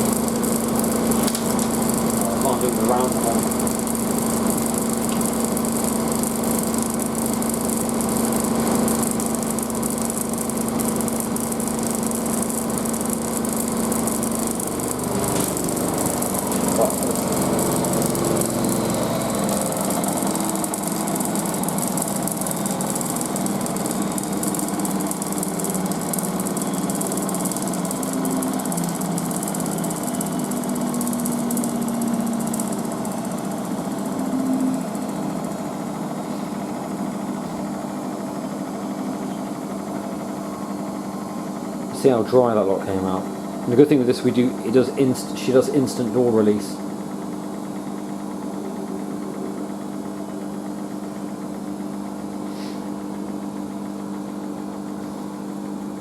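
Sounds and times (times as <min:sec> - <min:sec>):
washing machine spinning: 0:00.0 - 0:44.7, 0:46.2 - 0:56.0.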